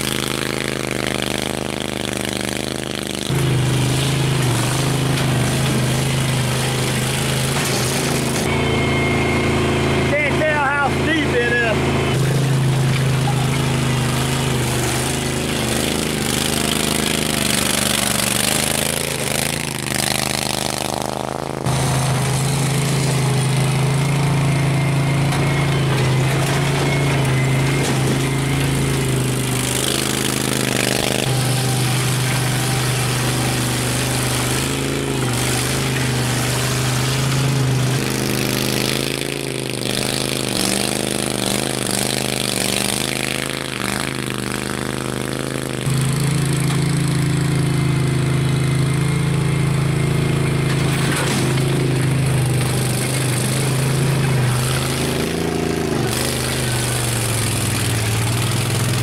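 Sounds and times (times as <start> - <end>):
small vehicle engine running: 0.0 - 59.0.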